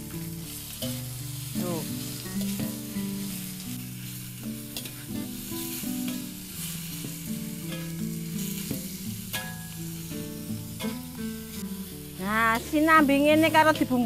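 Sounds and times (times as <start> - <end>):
background music with held notes: 0.0 - 14.0
meat sizzling while stirred: 0.0 - 14.0.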